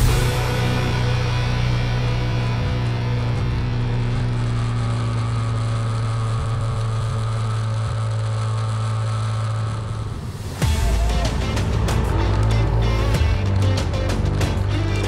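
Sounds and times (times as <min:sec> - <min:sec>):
quad bike engine drone: 0:00.0 - 0:15.0.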